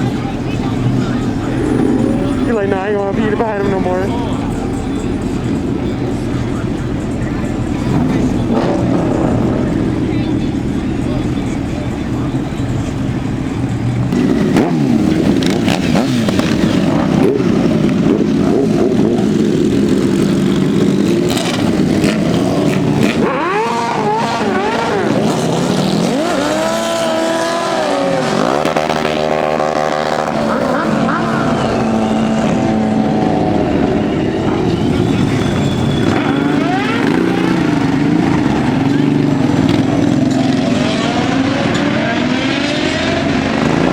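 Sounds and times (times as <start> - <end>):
car engines revving with loud exhaust: 0.0 - 43.9.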